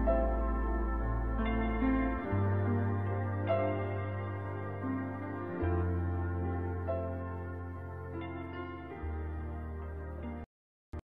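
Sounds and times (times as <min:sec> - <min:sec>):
slow soft new-age music: 0:00.0 - 0:10.5.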